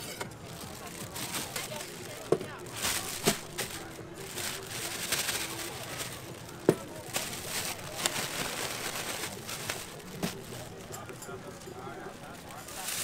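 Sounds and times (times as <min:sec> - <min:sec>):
market murmur: 0:00.0 - 0:13.0.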